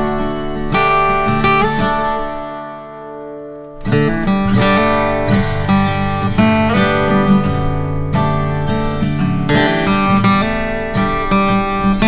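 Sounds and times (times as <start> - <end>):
plucked notes: 0.0 - 12.0.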